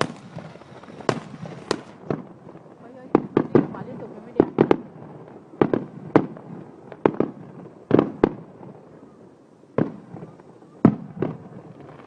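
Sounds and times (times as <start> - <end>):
fireworks bangs: 0.0 - 9.0, 9.7 - 12.0.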